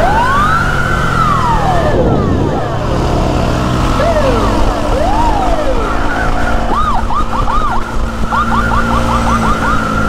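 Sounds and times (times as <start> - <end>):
police siren wailing and yelping: 0.0 - 3.1, 3.8 - 10.0
motorcycle engine running: 0.0 - 10.0.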